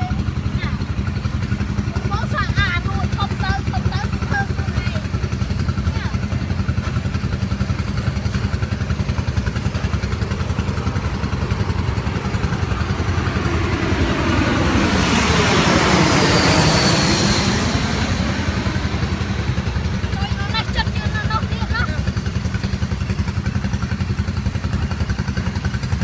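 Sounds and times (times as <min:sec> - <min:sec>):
rushing swell: 0:00.0 - 0:23.6
small engine humming: 0:00.0 - 0:26.0.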